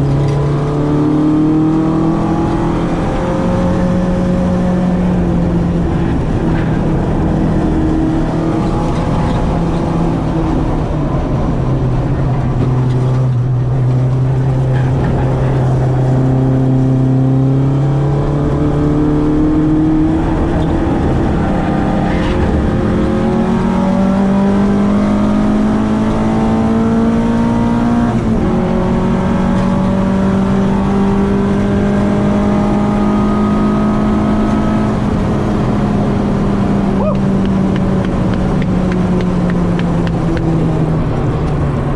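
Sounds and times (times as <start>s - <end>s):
car engine running hard: 0.0s - 41.9s.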